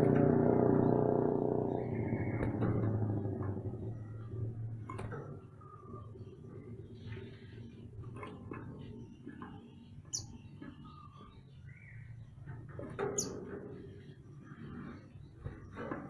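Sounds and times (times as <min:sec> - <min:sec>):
songbird chirping: 0:00.8 - 0:16.0.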